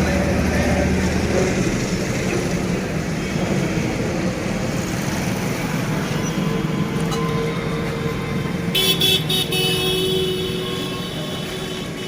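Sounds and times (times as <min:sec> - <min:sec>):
faint engine hum: 0:00.0 - 0:12.0
road traffic noise: 0:00.0 - 0:12.0.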